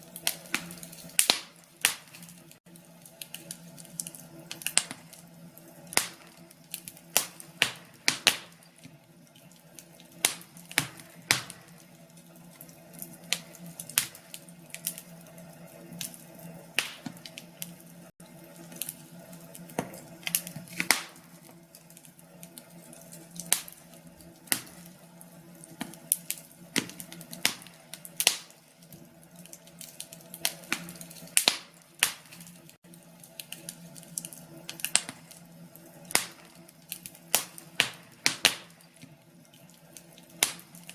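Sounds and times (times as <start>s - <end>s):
logs crackling in a fireplace: 0.0s - 40.9s.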